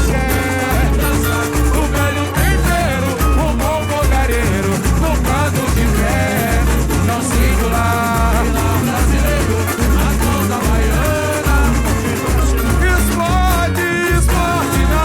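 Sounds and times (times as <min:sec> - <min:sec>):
deep drum beats: 0:00.0 - 0:15.0
samba percussion band: 0:00.0 - 0:15.0.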